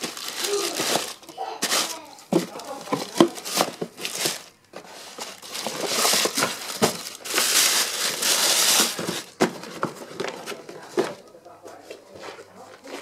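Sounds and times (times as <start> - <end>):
tissue paper crinkling and rustling: 0.0 - 11.2.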